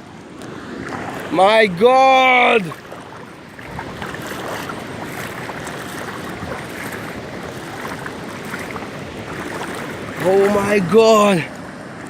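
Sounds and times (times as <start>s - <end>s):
river and waterfall rushing: 0.0s - 12.0s.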